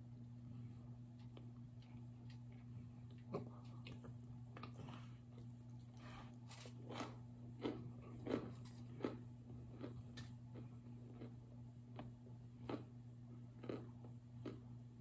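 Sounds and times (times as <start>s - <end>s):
low steady hum: 0.0s - 15.0s
crunchy chewing: 1.2s - 14.7s.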